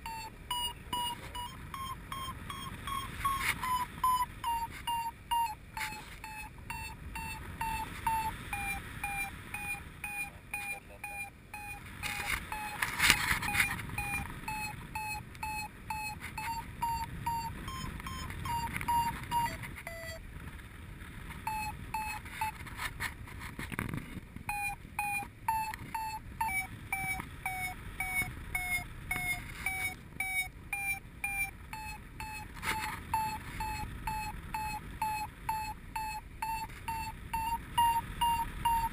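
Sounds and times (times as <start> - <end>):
variometer beeping: 0.0 - 20.3, 21.3 - 22.7, 23.8 - 38.9.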